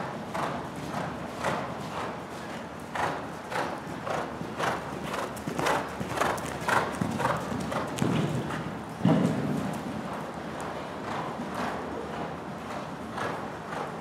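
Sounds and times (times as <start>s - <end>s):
horse hoofbeats cantering: 0.0s - 14.0s.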